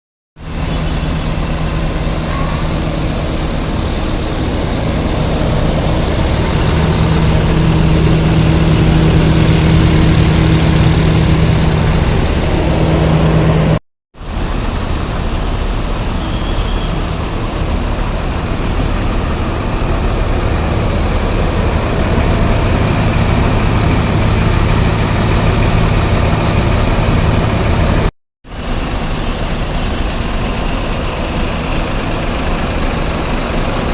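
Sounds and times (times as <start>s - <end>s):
bus engine idling: 0.4s - 33.9s.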